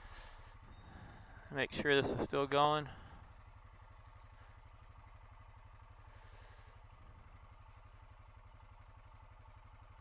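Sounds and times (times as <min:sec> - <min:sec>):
engine throbbing faintly: 0:00.0 - 0:10.0.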